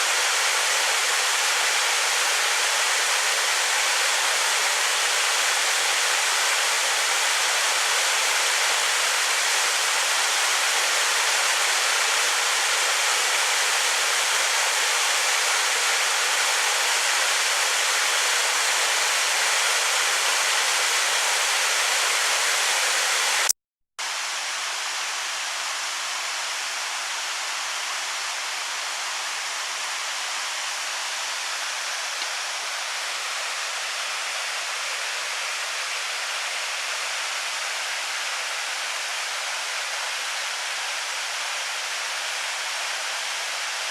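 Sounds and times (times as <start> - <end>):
waterfall rushing: 0.0 - 23.5, 24.2 - 43.9.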